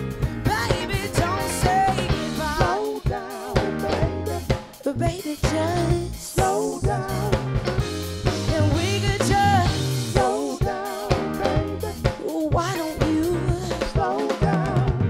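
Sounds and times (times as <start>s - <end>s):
drum kit beat: 0.0s - 15.0s
woman singing: 0.4s - 7.4s, 8.3s - 15.0s.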